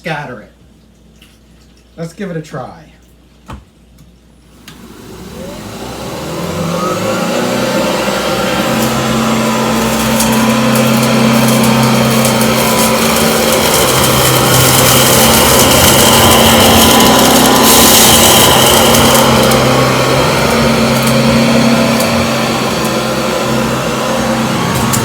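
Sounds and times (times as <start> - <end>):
stick vacuum running: 4.5 - 25.0.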